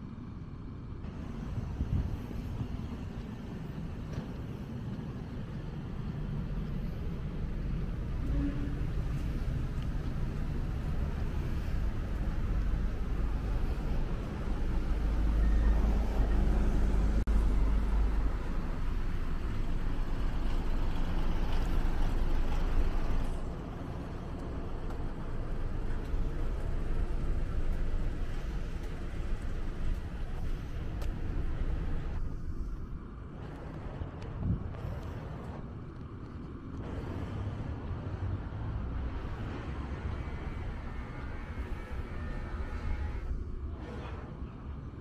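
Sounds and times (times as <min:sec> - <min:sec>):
heavy low rumble: 0:00.0 - 0:45.0
motor vehicles passing: 0:00.0 - 0:45.0.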